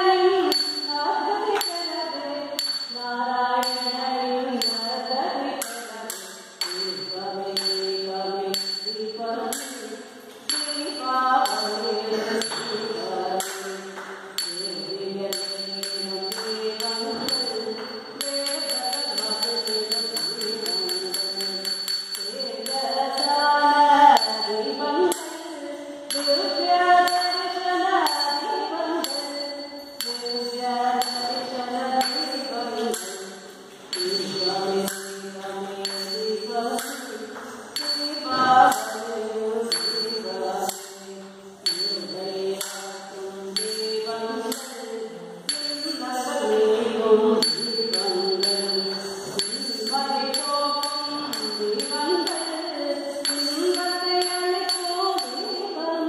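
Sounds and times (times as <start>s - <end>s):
person singing devotional song: 0.0s - 56.0s.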